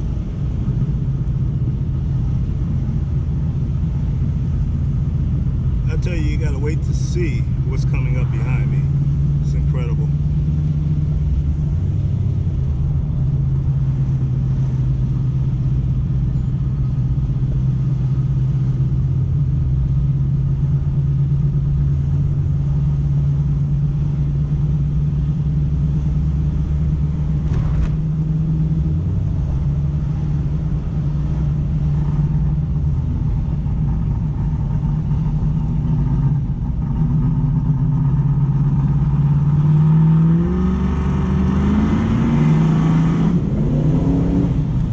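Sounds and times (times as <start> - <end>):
car engine rumbling: 0.0 - 44.9.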